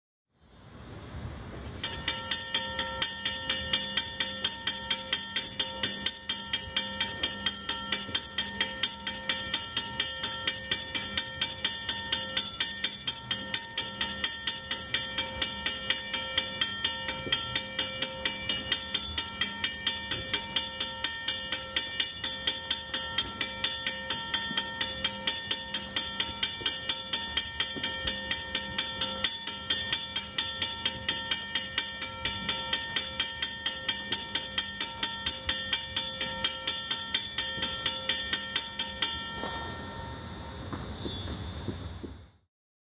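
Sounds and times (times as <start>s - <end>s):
railroad crossing bell ringing: 1.6s - 41.2s.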